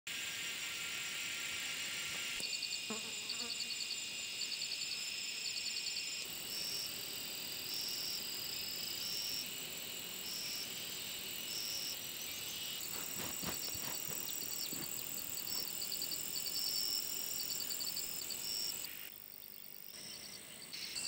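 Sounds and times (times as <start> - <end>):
insects chirping: 0.1 - 21.0.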